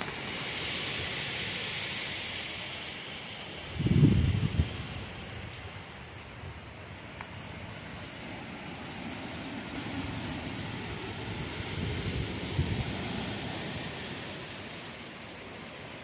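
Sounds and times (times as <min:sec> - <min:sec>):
rumbling wind gust: 0:00.0 - 0:15.8
rain hissing: 0:00.0 - 0:16.0.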